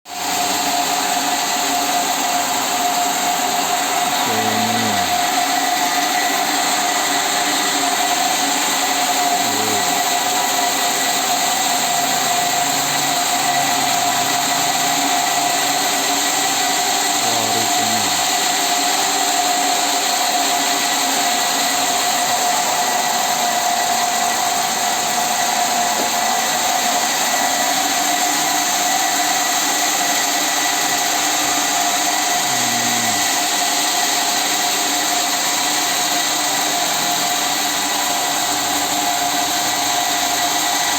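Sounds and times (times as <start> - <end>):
sawmill machinery whine: 0.1 - 40.9.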